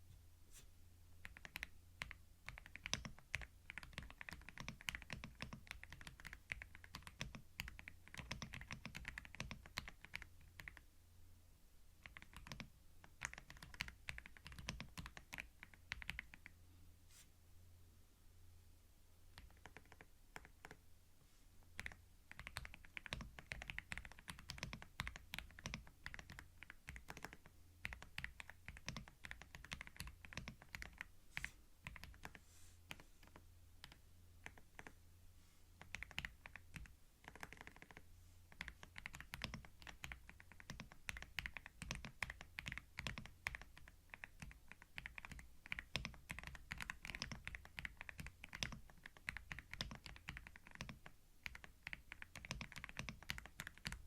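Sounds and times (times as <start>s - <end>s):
faint low hum: 0.0s - 54.0s
keyboard typing: 1.2s - 10.8s, 12.0s - 16.6s, 19.3s - 20.8s, 21.7s - 35.0s, 35.8s - 54.0s.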